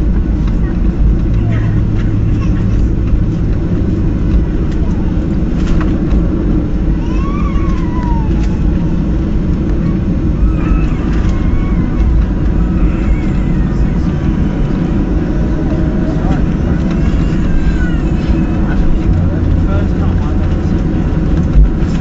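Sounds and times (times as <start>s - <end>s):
airplane cabin engine roar: 0.0s - 22.0s
faint whines: 0.0s - 22.0s.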